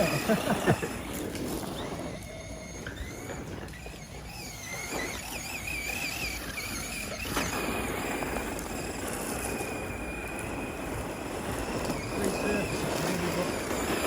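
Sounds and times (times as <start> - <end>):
electric motor whine: 0.0 - 14.0
tyres crunching on gravel: 0.0 - 14.0.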